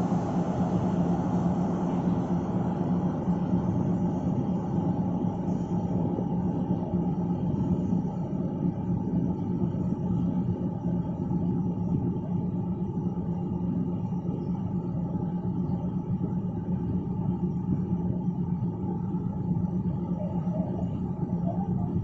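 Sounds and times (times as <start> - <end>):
diesel train engine idling: 0.0 - 22.0.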